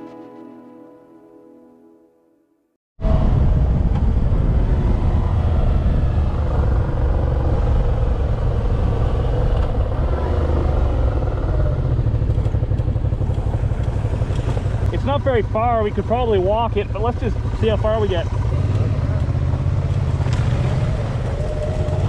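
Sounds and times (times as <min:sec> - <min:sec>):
motorcycle engine running: 0:03.0 - 0:22.0
wind rushing over microphone: 0:03.0 - 0:22.0.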